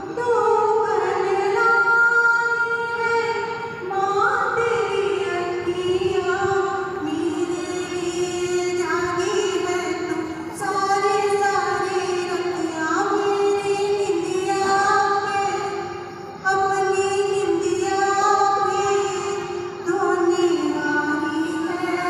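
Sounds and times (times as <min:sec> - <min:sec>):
woman singing into a microphone: 0:00.0 - 0:22.0.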